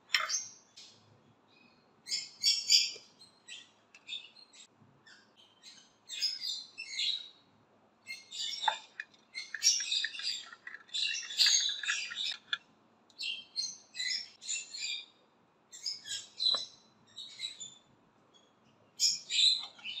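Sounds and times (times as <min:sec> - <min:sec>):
birds chirping: 0:01.6 - 0:20.0.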